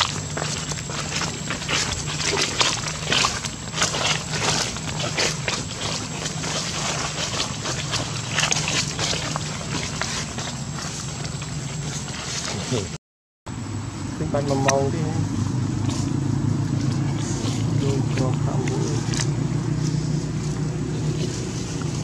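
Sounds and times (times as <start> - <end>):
footsteps crunching dry leaves: 0.0 - 13.0, 14.3 - 22.0
steady low hum: 0.0 - 22.0.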